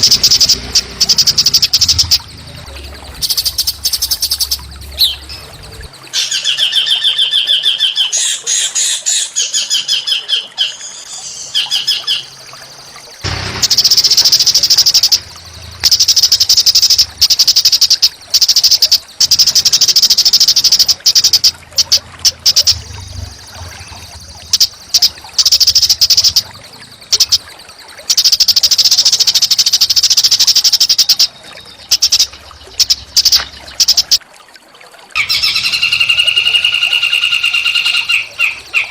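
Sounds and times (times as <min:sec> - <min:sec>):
songbird chattering song: 0:00.0 - 0:34.2, 0:35.2 - 0:38.9.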